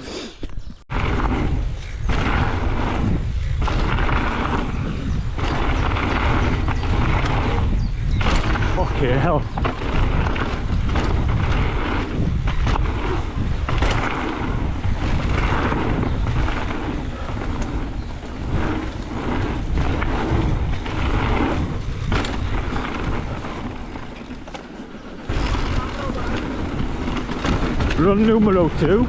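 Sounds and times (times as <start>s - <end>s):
wind buffeting microphone: 0.5s - 29.0s.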